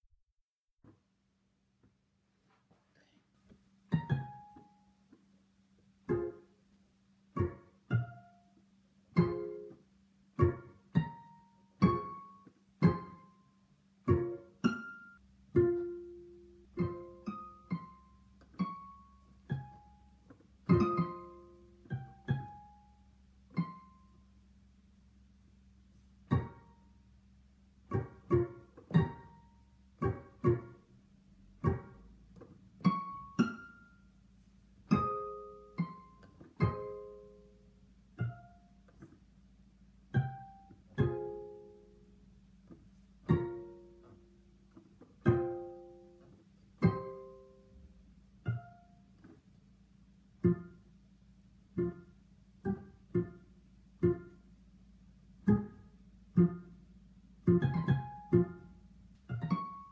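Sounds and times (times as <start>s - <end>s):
sparse plucked-string music: 3.8s - 25.3s, 25.9s - 59.9s.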